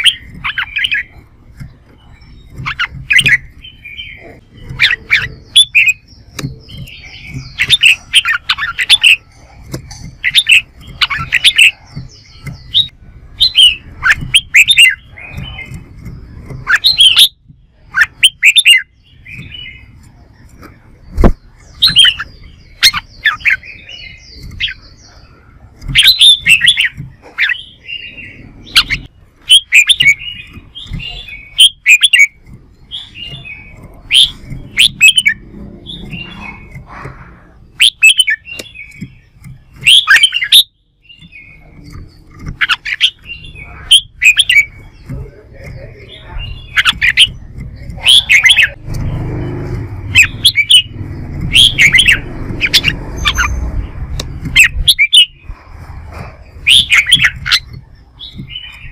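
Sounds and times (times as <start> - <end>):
birds singing warbled phrases: 0.0 - 58.9.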